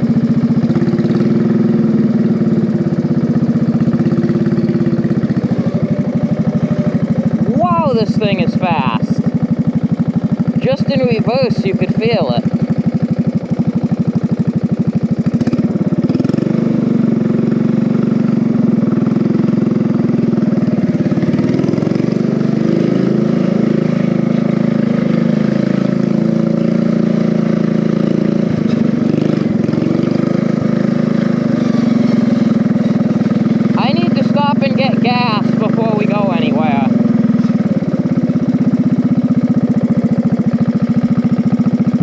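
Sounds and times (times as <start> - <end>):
lawn mower engine revving: 0.0 - 42.0.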